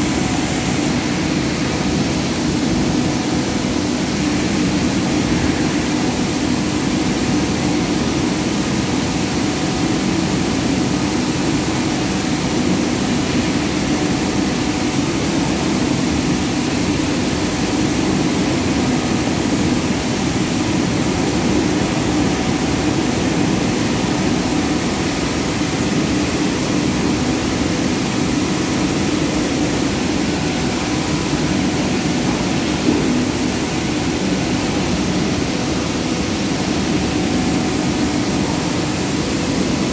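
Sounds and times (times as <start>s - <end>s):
mill machinery droning: 0.0s - 39.9s.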